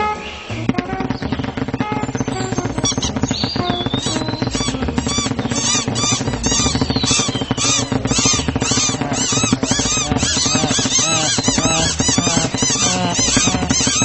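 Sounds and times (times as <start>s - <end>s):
low rhythmic music: 0.0s - 14.0s
cartoon birds chirping: 0.3s - 14.0s.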